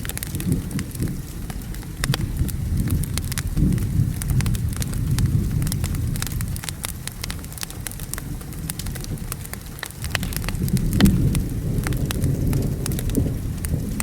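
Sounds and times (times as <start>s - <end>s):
low thunder rumble: 0.0s - 14.0s
steady rain: 0.0s - 14.0s
wood fire crackling and popping: 0.0s - 14.0s.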